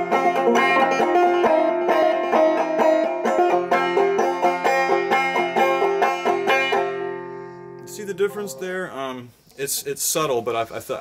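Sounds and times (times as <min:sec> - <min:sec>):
fingers brushing banjo strings: 0:00.0 - 0:10.4
banjo picking and strumming: 0:00.0 - 0:11.0.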